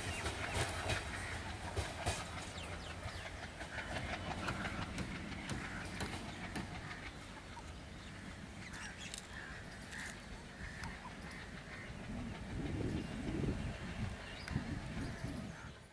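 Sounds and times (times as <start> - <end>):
train wheels clattering over rails: 0.0 - 15.9.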